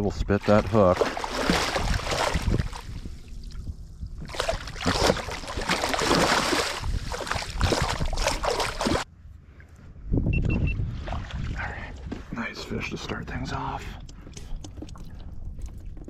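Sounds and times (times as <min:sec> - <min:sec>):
water splashing and sloshing: 0:00.0 - 0:09.8, 0:10.8 - 0:12.4, 0:14.0 - 0:16.0.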